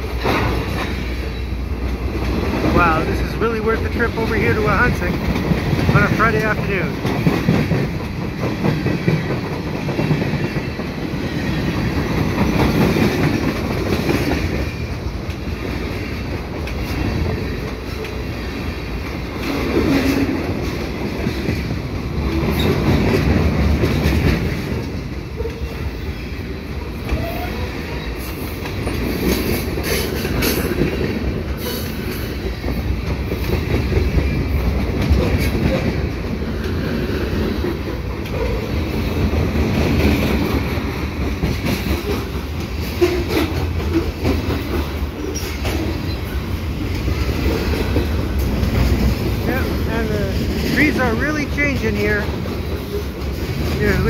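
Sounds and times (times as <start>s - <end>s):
freight train rumbling past: 0.0s - 54.0s
wheels clacking over rail joints: 0.0s - 54.0s.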